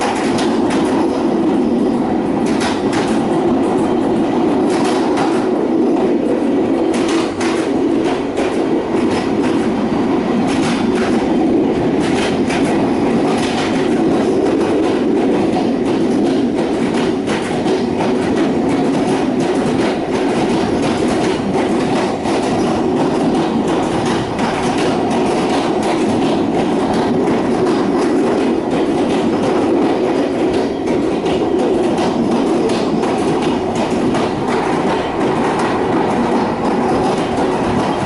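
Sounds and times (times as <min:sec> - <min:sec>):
clickety-clack of train: 0:00.0 - 0:38.0
train wheels rumbling on rails: 0:00.0 - 0:38.0.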